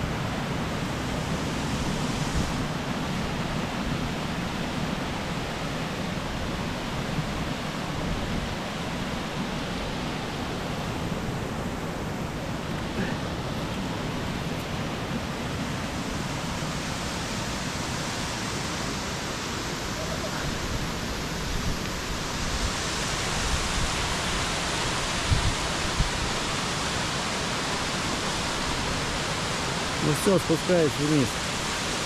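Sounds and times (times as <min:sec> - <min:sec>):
waterfall and stream rushing: 0:00.0 - 0:32.0.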